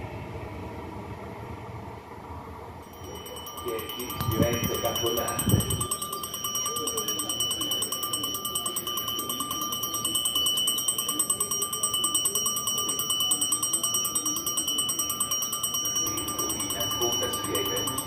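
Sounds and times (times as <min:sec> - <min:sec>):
warning bell ringing rapidly: 0:02.8 - 0:18.0.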